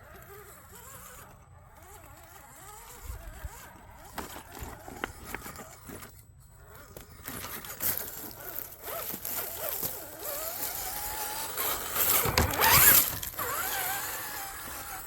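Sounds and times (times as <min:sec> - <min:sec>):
electric motor whining: 0:00.0 - 0:15.0
tyres crunching over rough ground: 0:00.0 - 0:15.0.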